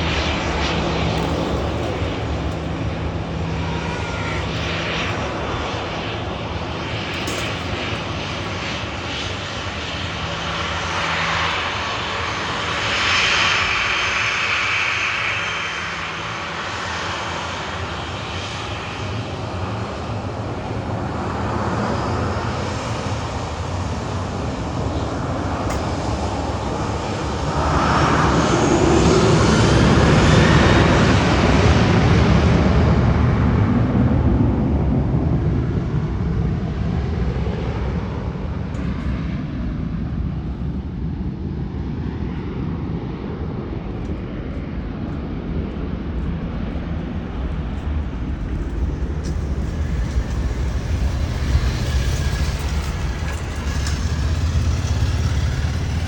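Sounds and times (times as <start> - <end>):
jet engines at takeoff power: 0.0 - 56.0.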